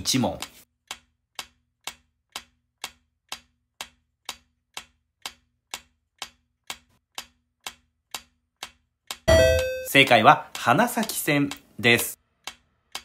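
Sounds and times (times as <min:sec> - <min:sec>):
sharp clock-like ticks: 0:00.0 - 0:13.0.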